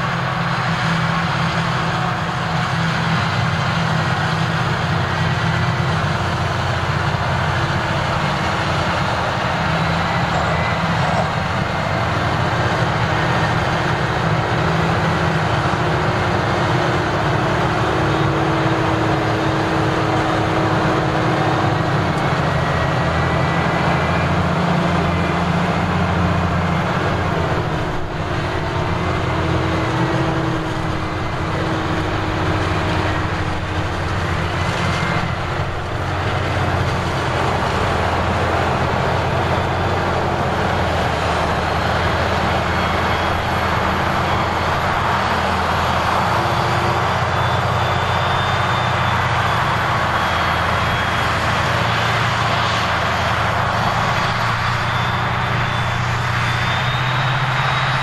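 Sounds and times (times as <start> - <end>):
forage harvester engine drone: 0.0 - 58.0.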